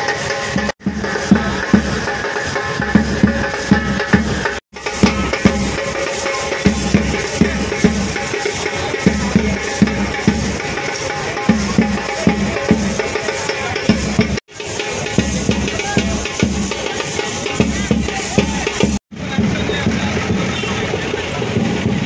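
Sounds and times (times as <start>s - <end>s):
rhythmic drum beat: 0.0s - 22.0s.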